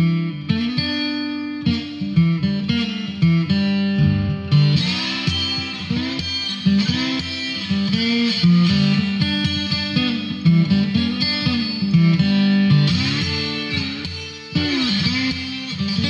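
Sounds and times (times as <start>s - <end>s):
guitar-led instrumental music: 0.0s - 16.0s.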